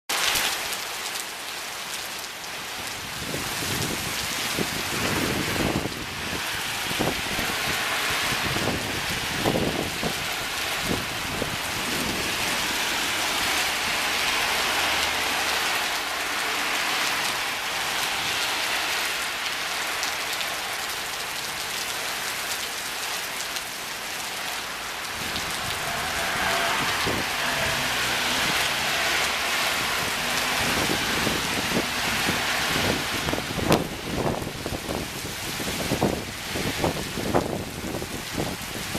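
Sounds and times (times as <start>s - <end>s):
heavy rain hissing: 2.6s - 38.9s.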